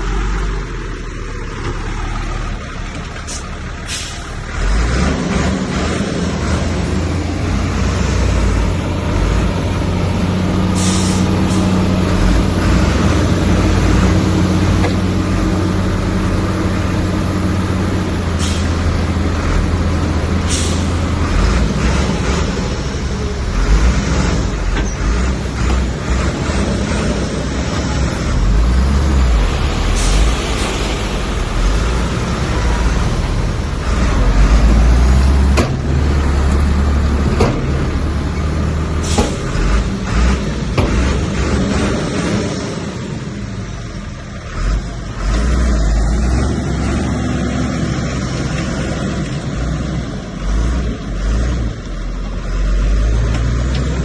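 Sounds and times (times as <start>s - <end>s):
heavy diesel machinery working: 0.0s - 54.0s.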